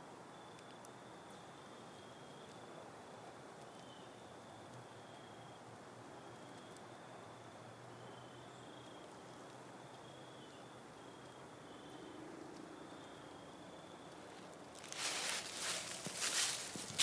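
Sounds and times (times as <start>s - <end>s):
crickets trilling faintly: 0.0s - 17.0s.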